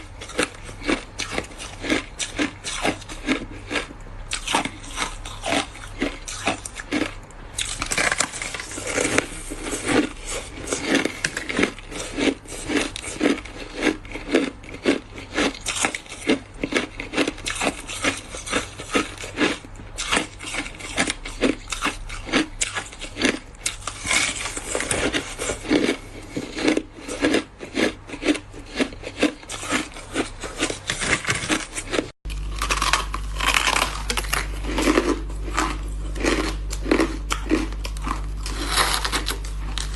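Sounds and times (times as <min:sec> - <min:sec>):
ice crunching being chewed: 0:00.0 - 0:39.9
low steady hum: 0:00.0 - 0:39.9.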